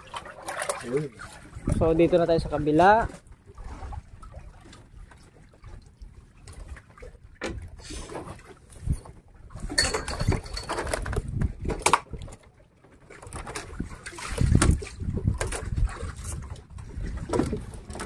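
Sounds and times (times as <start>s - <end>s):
water sloshing around boat: 0.0s - 18.0s.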